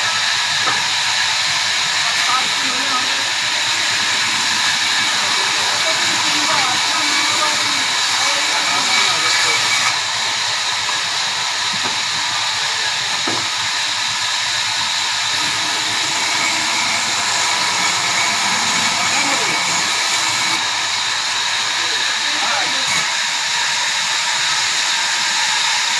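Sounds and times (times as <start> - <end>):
sawmill machine hissing and whining: 0.0 - 25.9.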